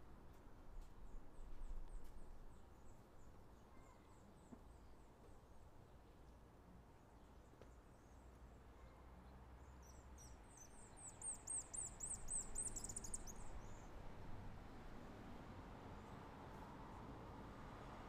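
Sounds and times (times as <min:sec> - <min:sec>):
faint background noise: 0:00.0 - 0:18.0.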